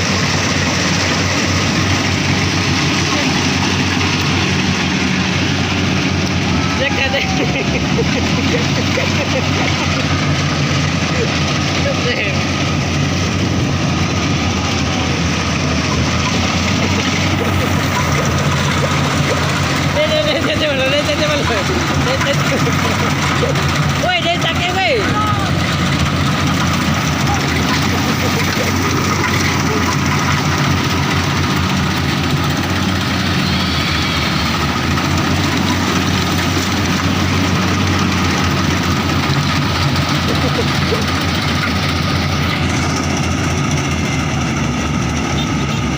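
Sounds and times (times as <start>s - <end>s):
combine harvester diesel engine: 0.0s - 45.9s.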